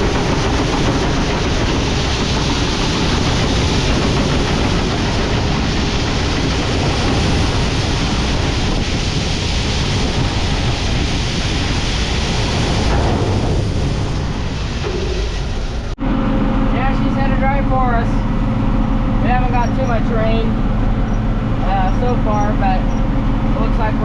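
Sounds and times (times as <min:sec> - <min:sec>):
farm machinery rumbling: 0:00.0 - 0:24.0
strong wind on microphone: 0:00.0 - 0:24.0.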